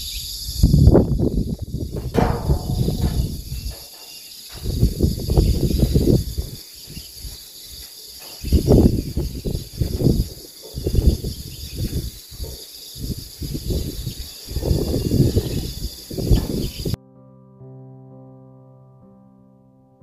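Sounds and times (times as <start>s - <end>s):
insects buzzing: 0.0s - 17.0s
wind buffeting microphone: 0.0s - 17.0s.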